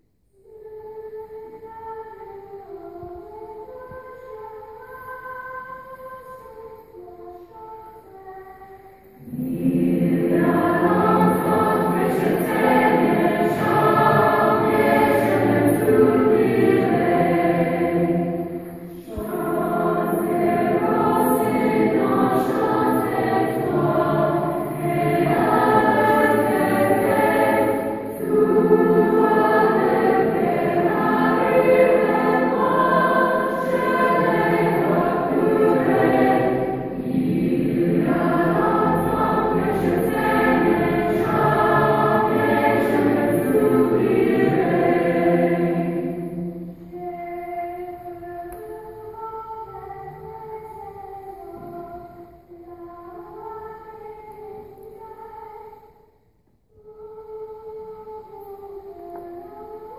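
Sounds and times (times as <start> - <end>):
children's chorus singing: 0.0 - 55.9.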